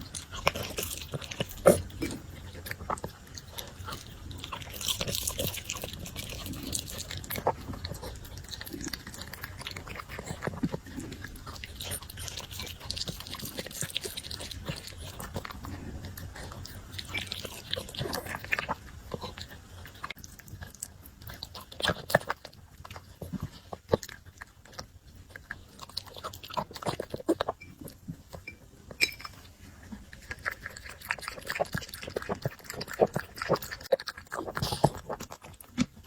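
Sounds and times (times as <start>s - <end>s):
puppy chewing and mouth clicks: 0.0s - 36.0s.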